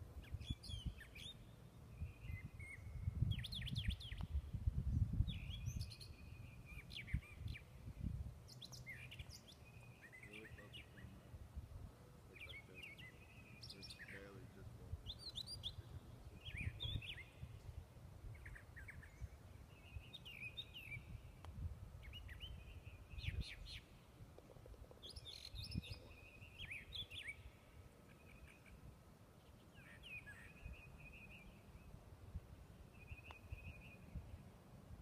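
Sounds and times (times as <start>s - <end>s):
songbirds chirping: 0.0s - 35.0s.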